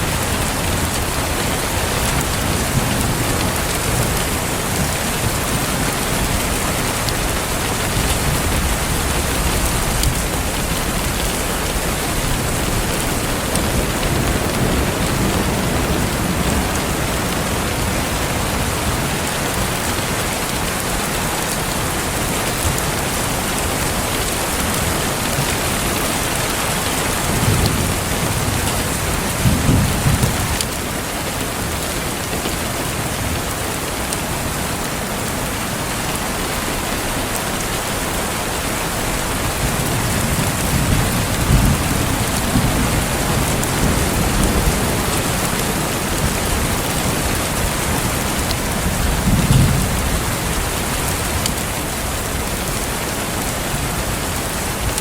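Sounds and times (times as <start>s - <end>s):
thunder rumbling: 0.0s - 32.2s, 35.8s - 55.0s
steady rain falling: 0.0s - 55.0s.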